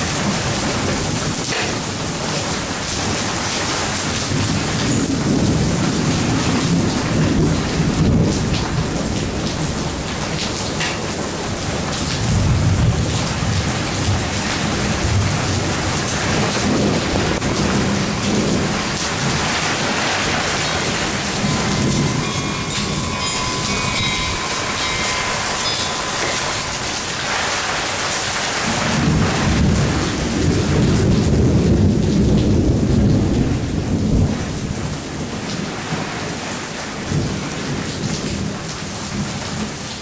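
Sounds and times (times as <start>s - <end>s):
steady rain hissing: 0.0s - 40.0s
thunder rumbling: 0.0s - 40.0s.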